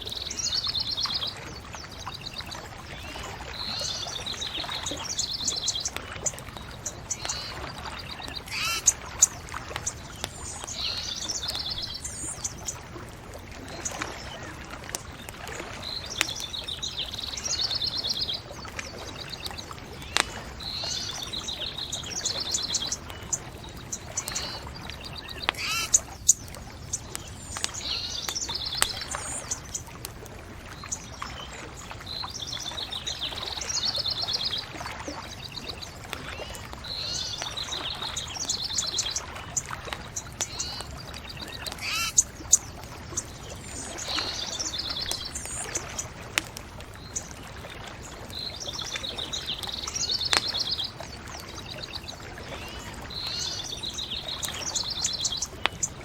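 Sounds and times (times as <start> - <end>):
songbird singing trilled phrases: 0.0 - 12.8, 13.7 - 29.8, 32.1 - 46.1, 51.6 - 56.0
bonfire crackling: 0.0 - 56.0.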